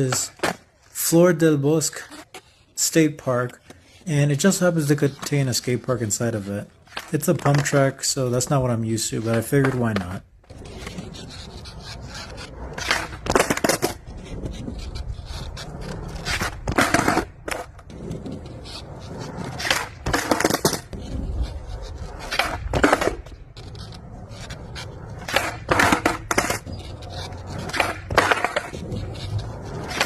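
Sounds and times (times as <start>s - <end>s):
skateboard wheels rumbling: 0.0s - 30.0s
skateboard scrapes and clacks: 1.8s - 30.0s.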